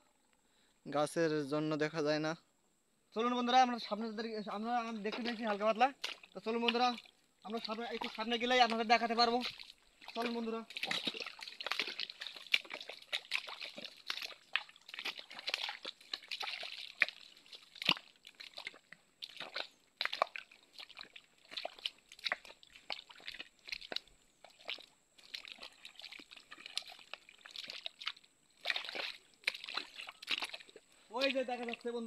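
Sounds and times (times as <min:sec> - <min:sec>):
footsteps on wet forest ground: 0:03.2 - 0:32.0.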